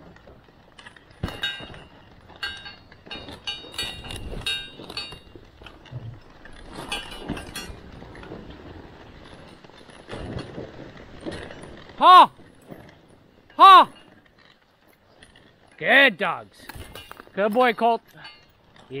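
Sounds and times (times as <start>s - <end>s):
metallic clinks of sled rig: 0.0s - 19.0s
sled scraping on snow: 0.0s - 19.0s.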